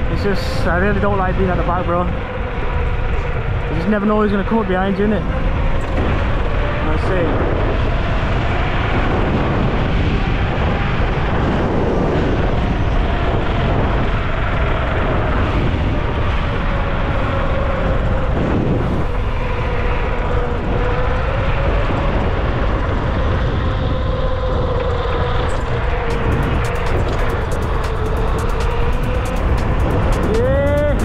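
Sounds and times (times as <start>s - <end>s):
electric motor whine: 0.0s - 31.0s
wind noise on microphone: 0.0s - 31.0s.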